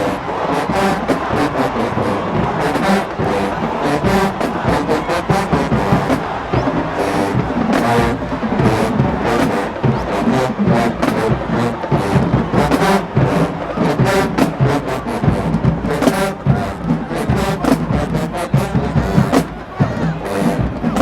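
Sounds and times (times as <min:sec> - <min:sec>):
brass horns playing chords: 0:00.0 - 0:19.6
drums and percussion beat: 0:00.0 - 0:21.0.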